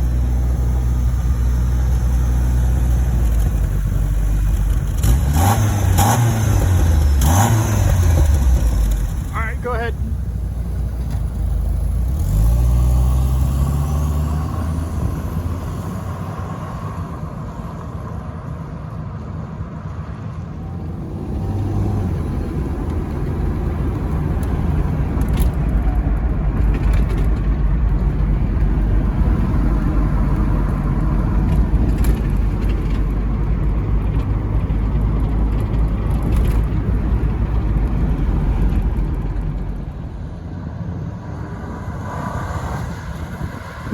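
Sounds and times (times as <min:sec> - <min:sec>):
car engine accelerating: 0:00.0 - 0:17.4, 0:20.2 - 0:40.6
road and tyre rumble: 0:00.0 - 0:43.9.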